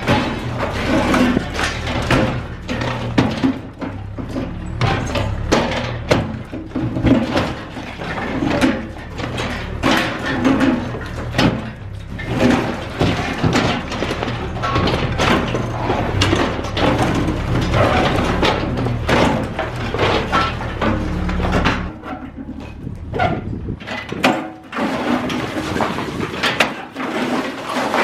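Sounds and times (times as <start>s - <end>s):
debris crashing and scraping: 0.0s - 28.0s
excavator engine under load: 0.0s - 28.0s.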